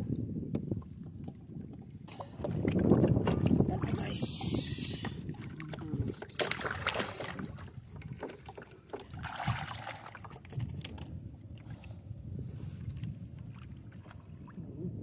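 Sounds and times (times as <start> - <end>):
water sloshing and splashing: 0.0 - 14.9
wind rumble on microphone: 0.0 - 15.0.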